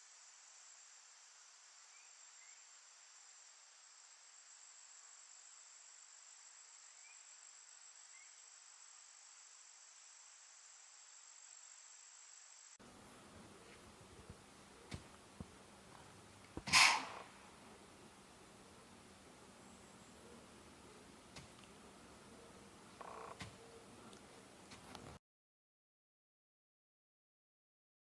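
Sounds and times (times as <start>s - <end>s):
soft hiss: 0.0s - 25.2s.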